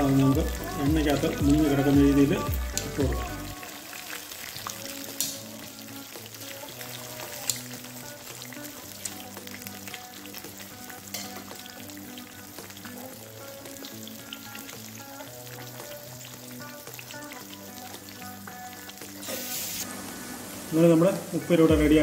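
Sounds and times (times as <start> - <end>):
ladle stirring oil: 0.0 - 19.9
deep-frying sizzle with pops: 0.0 - 22.0
faint background music: 0.0 - 22.0.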